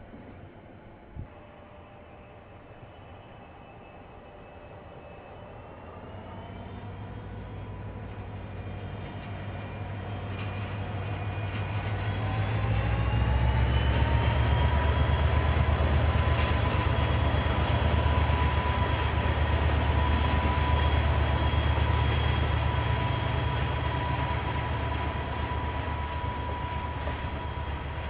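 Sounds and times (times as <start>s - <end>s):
diesel locomotive engine drone: 0.0s - 28.0s
train whine: 0.0s - 28.0s.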